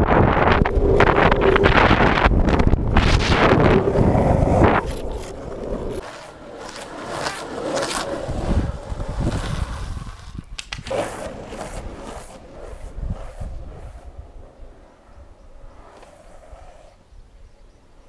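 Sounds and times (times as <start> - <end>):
wind buffeting microphone: 0.0 - 6.0, 7.6 - 17.7
skateboard wheels scraping asphalt: 0.0 - 18.0.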